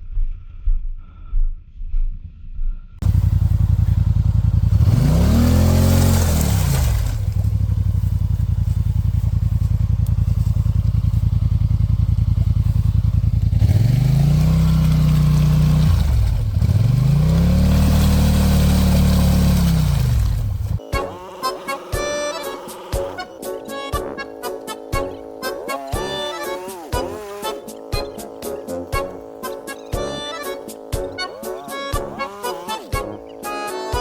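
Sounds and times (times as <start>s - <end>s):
atv engine revving: 3.0s - 34.0s.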